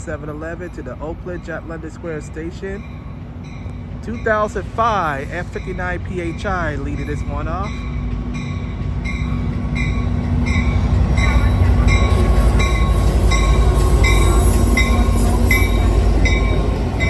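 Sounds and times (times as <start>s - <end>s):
diesel locomotive rumbling: 0.0s - 17.0s
locomotive bell ringing: 0.0s - 17.0s.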